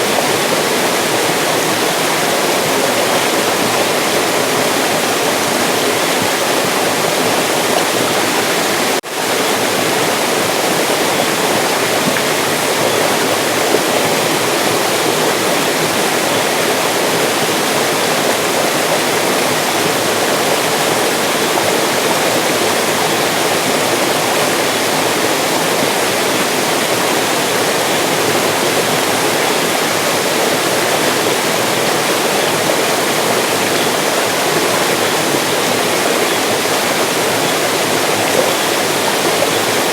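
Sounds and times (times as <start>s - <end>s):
mountain stream rushing and splashing: 0.0s - 39.9s.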